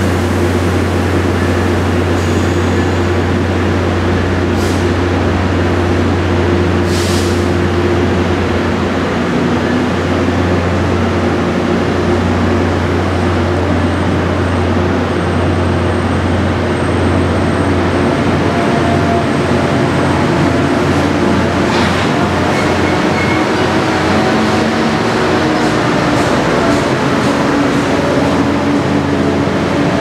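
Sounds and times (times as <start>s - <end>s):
diesel locomotive drone: 0.0s - 30.0s
train coaches rolling: 0.0s - 30.0s.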